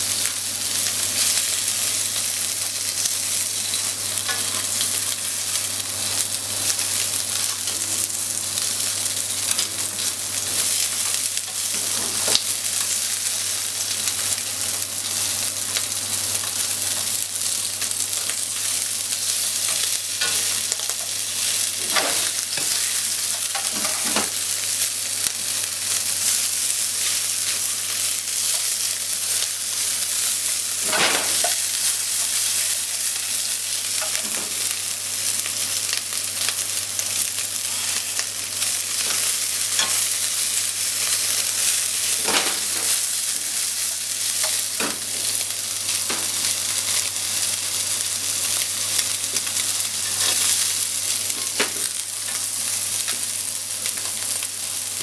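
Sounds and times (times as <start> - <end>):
fish sizzling in a frying pan: 0.0 - 55.0.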